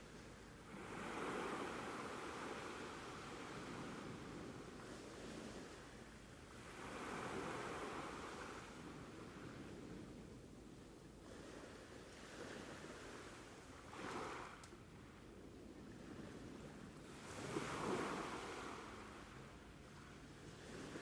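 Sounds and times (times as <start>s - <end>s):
ocean waves on shore: 0.0s - 21.0s.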